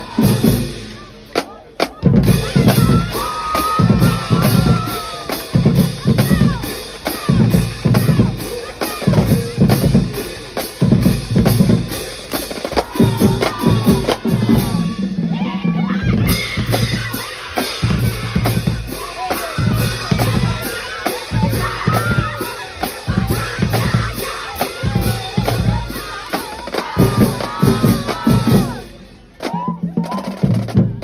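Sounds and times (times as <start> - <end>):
drum kit playing: 0.0 - 31.0.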